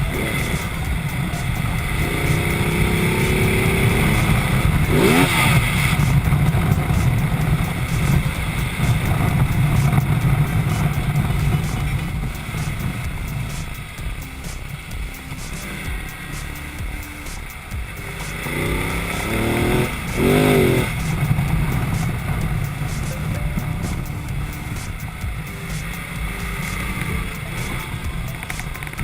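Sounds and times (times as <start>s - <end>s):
motorcycle engine running: 0.0s - 29.0s
rising and falling sweep: 0.0s - 29.0s
wind and road noise: 0.0s - 29.0s.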